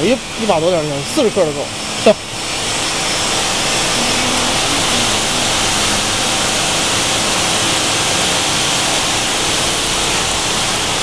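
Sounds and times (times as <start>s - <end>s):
steady loud rushing noise: 0.0s - 11.0s.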